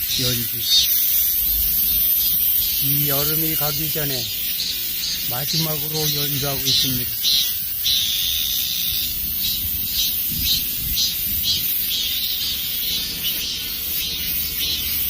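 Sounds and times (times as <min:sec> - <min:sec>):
cicadas buzzing and pulsing: 0:00.0 - 0:15.0.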